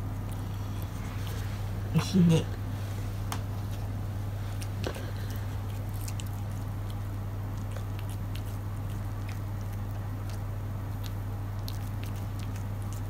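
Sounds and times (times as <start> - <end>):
cat licking and chewing: 0.0 - 13.0
steady low hum: 0.0 - 13.0.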